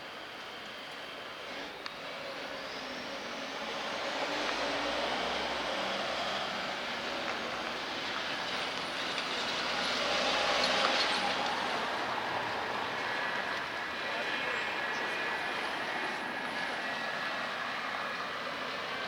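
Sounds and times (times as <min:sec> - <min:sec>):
passing vehicle: 0:01.2 - 0:19.0.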